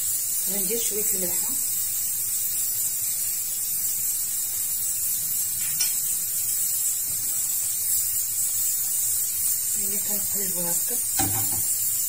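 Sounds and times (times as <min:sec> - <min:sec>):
pressure cooker steam hissing: 0:00.0 - 0:12.0.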